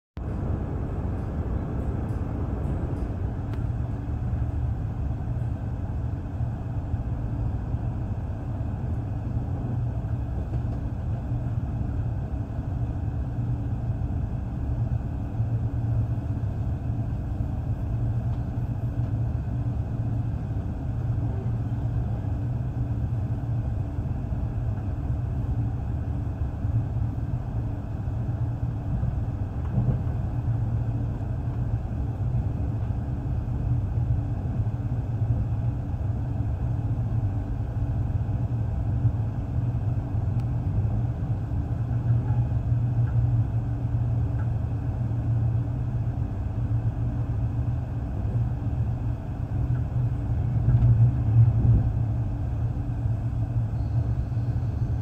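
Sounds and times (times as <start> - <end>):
train rumble: 0.2 - 55.0.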